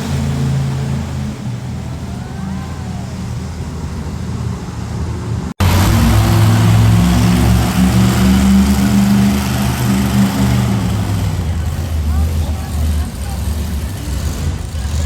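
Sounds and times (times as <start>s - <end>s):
wide rushing noise: 0.0s - 14.9s
deep truck engine running: 0.0s - 15.0s.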